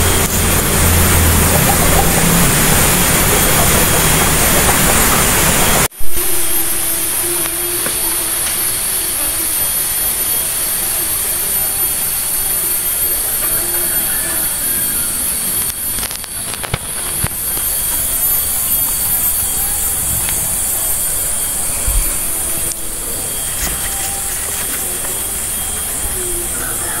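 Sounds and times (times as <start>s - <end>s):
high-pitched pulsing hiss: 0.0s - 27.0s.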